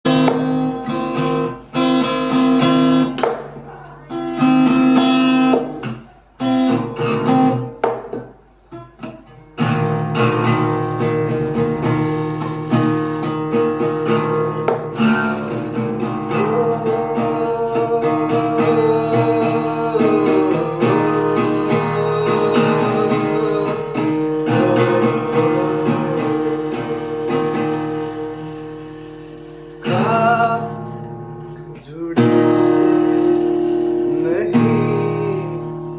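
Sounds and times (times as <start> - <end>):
acoustic guitar strumming: 0.0 - 35.9.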